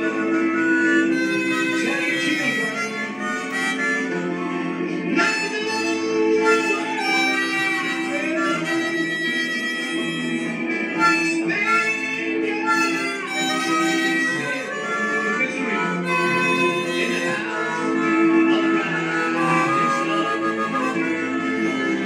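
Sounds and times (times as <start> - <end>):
harmonica melody: 0.0 - 22.0.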